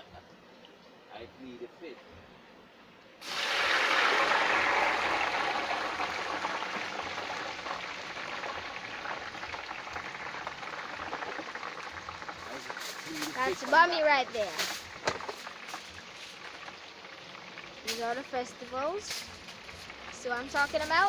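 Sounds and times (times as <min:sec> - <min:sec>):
food sizzling in hot oil: 0:03.2 - 0:21.0.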